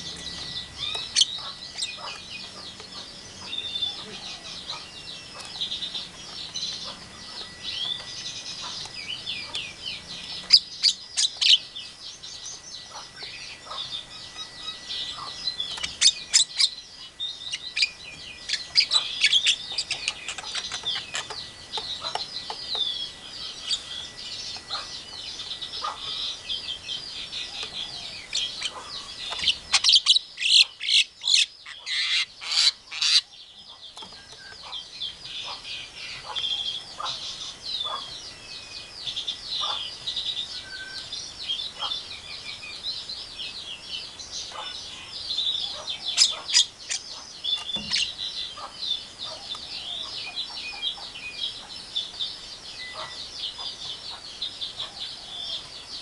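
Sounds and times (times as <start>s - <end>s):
loud sharp bird calls: 0.0s - 56.0s.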